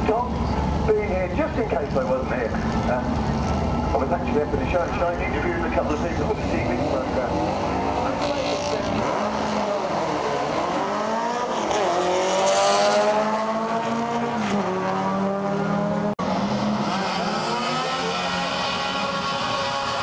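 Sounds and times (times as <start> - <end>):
drag car engines revving: 0.0 - 20.0.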